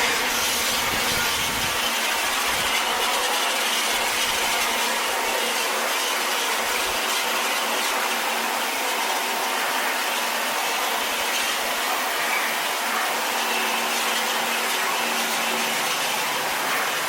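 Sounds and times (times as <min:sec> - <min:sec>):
pressure washer spraying on metal: 0:00.0 - 0:17.0.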